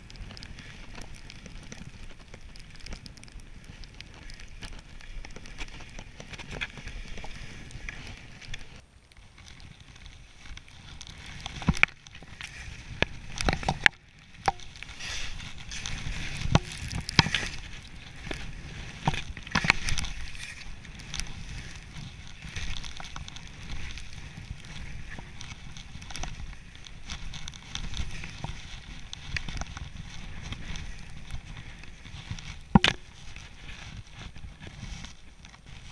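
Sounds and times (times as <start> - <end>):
skis running through powder snow: 0.0 - 35.9.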